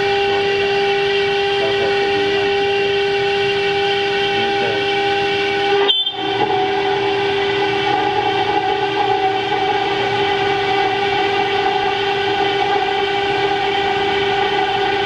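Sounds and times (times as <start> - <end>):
router spindle cutting marble: 0.0 - 15.0.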